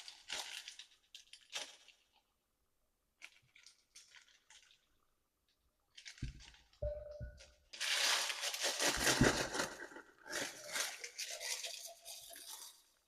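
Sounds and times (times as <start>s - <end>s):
crinkling and rustling handling noise: 0.0s - 2.5s, 3.1s - 13.0s.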